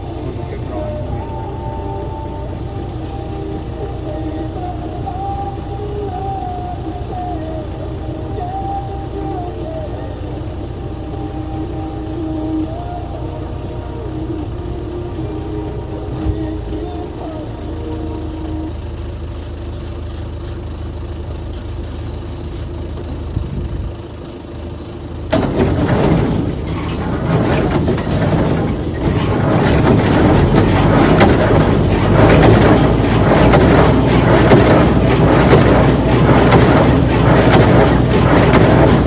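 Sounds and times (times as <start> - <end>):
farm machinery engine running: 0.0 - 39.0
rattling machinery noise: 0.0 - 39.0.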